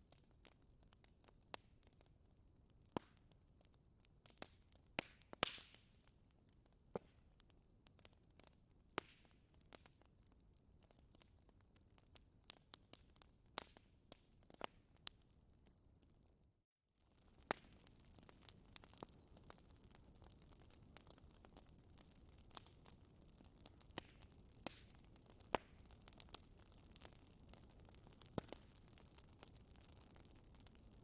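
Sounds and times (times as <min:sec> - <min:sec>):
wood fire crackling: 0:00.0 - 0:16.3, 0:17.0 - 0:31.0.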